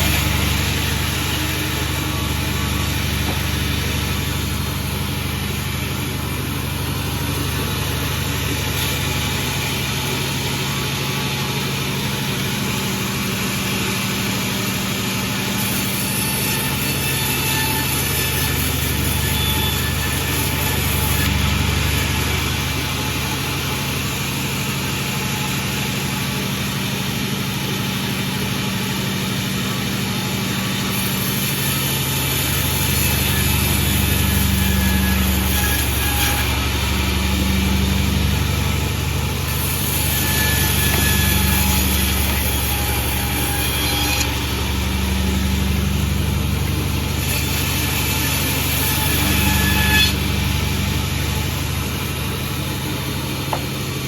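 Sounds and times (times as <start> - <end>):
saw cutting wood with high hiss: 0.0 - 54.0
sawmill engine drone: 0.0 - 54.0.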